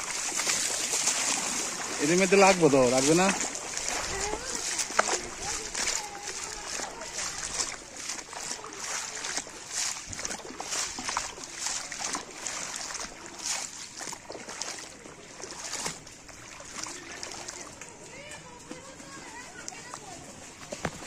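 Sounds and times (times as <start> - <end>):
feet splashing through water: 0.0 - 21.0.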